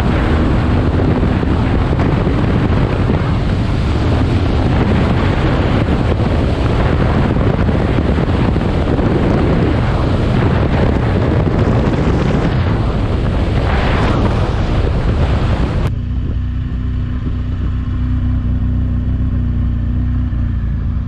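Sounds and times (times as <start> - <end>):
motorcycle engine: 0.0 - 21.0
road noise: 0.0 - 21.0
wind rushing over microphone: 0.0 - 21.0.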